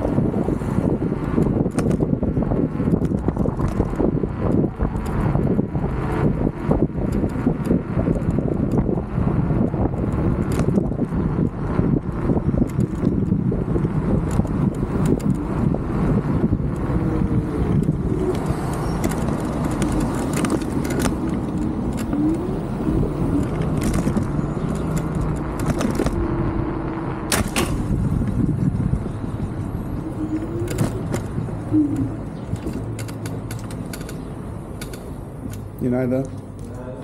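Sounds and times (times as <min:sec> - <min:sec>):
road rumble: 0:00.0 - 0:37.0
wind rushing over microphone: 0:00.0 - 0:37.0.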